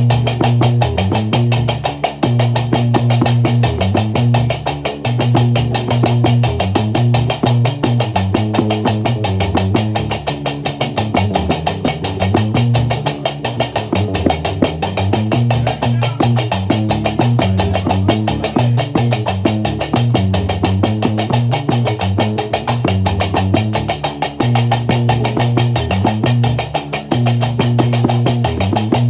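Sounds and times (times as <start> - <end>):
low plucked bass riff: 0.0 - 29.0.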